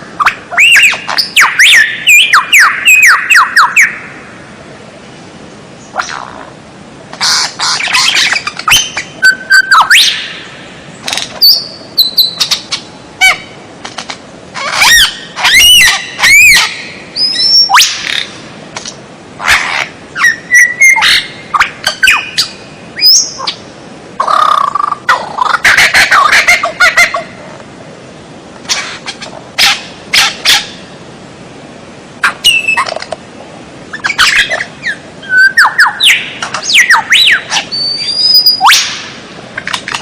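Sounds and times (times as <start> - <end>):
songbird singing: 0.0 - 6.6, 7.2 - 31.1, 32.2 - 40.0.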